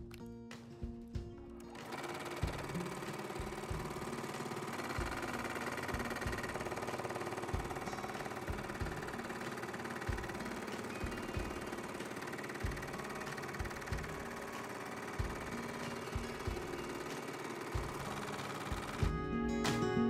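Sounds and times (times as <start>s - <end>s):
embroidery machine needle clatter: 1.6s - 19.1s.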